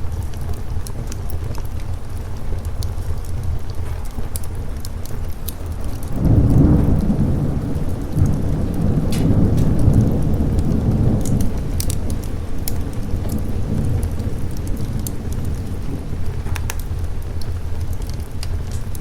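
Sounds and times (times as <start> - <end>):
rolling thunder: 0.0 - 19.0
sharp crackles: 0.0 - 19.0
steady rain: 0.0 - 19.0.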